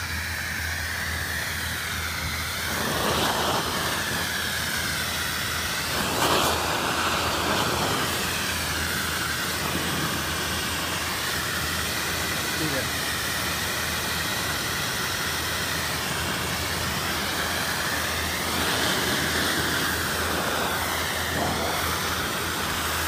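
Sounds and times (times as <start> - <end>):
low steamer hum: 0.0 - 23.0
steam jet hissing: 0.0 - 23.0.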